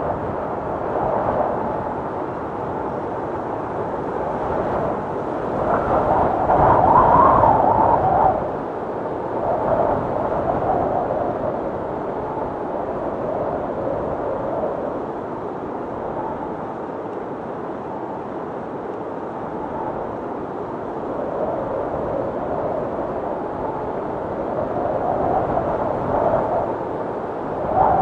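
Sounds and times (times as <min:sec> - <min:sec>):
wind noise rushing: 0:00.0 - 0:15.0, 0:19.4 - 0:28.0.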